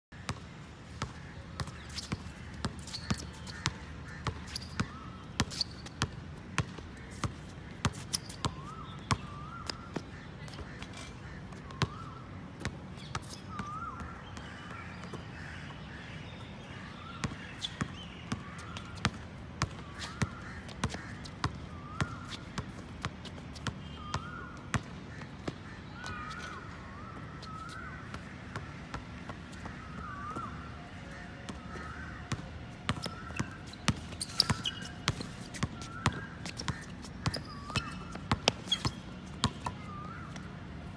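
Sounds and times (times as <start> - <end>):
basketball bouncing on pavement: 0.2 - 15.8, 17.0 - 40.5.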